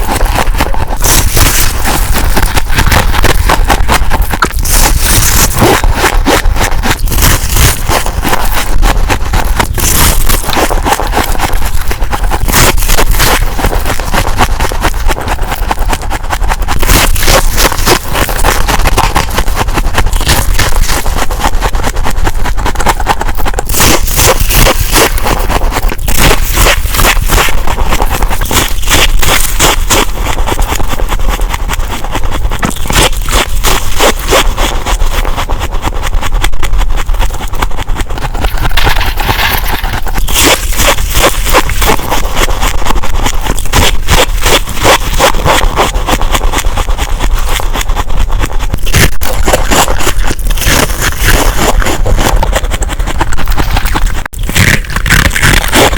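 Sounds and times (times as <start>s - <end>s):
freezer frost scraping and crunching: 0.0s - 55.9s.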